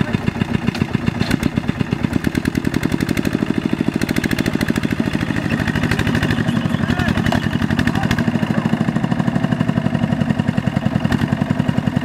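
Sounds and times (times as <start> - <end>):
diesel tractor engine chugging: 0.0 - 12.0.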